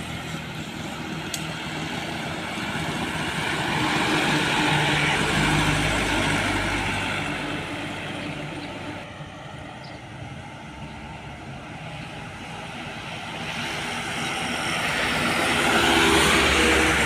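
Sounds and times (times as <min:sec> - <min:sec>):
diesel truck driving past: 0:00.0 - 0:17.0.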